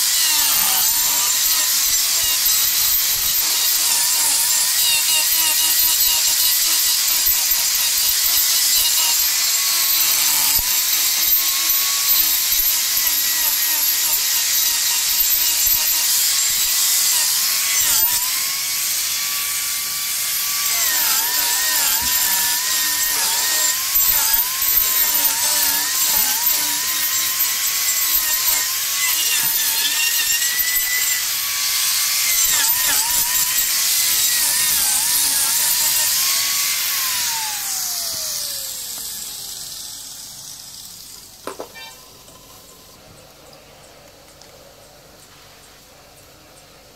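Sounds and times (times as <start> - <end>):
angle grinder whining: 0.0 - 43.5.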